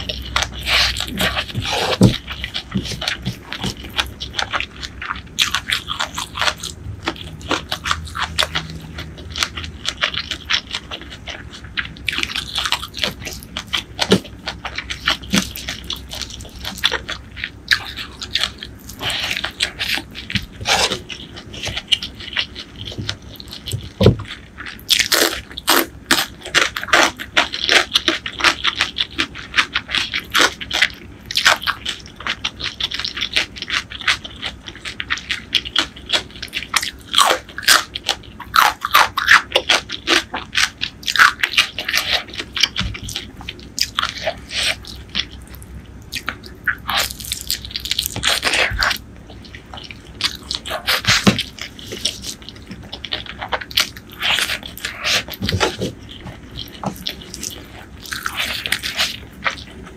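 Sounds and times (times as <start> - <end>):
crunching cucumber bites: 0.0 - 59.9
wet chewing: 0.0 - 59.9.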